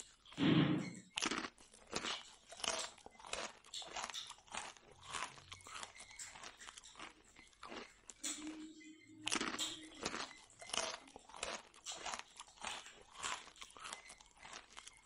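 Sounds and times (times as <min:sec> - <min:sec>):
crunchy chewing of crisp sweet: 0:00.0 - 0:00.4, 0:01.0 - 0:15.0.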